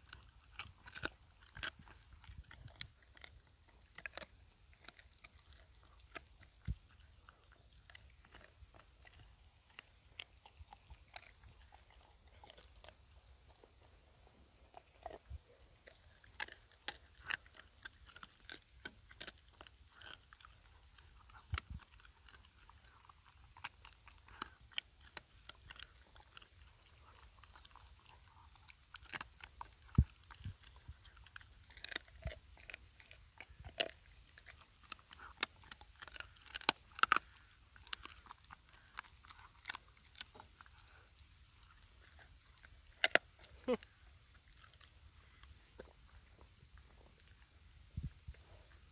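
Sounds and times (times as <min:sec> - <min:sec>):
dog chewing bones: 0:00.0 - 0:48.9.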